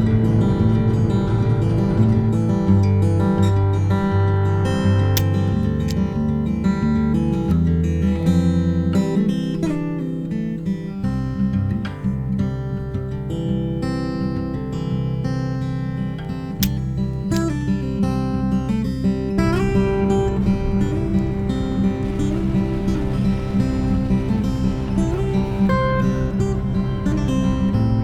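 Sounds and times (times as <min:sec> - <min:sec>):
acoustic guitar chords: 0:00.0 - 0:28.0.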